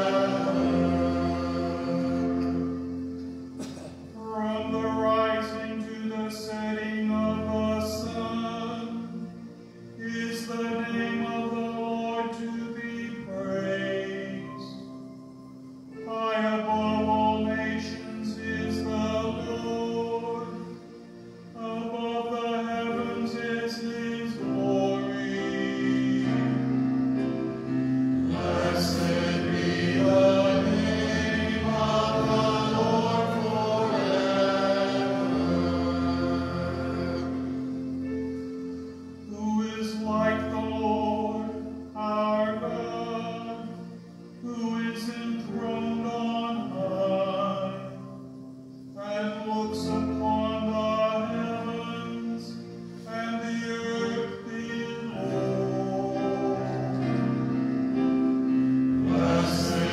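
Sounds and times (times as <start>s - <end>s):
instrumental accompaniment: 0.0s - 59.9s
slow liturgical singing: 0.0s - 59.9s.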